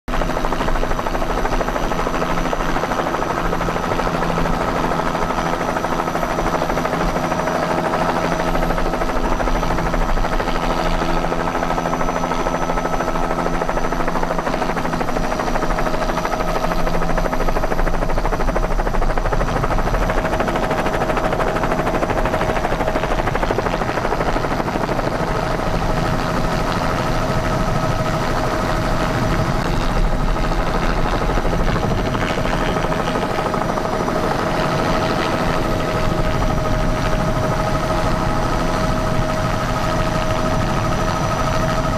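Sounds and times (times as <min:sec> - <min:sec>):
helicopter turbine and rotor: 0:00.0 - 0:41.9.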